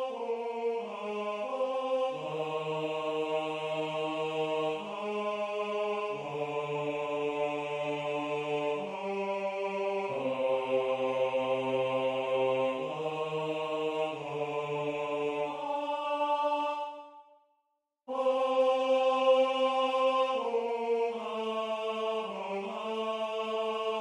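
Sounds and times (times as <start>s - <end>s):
synthesized choir singing: 0.0s - 17.4s, 18.1s - 24.0s.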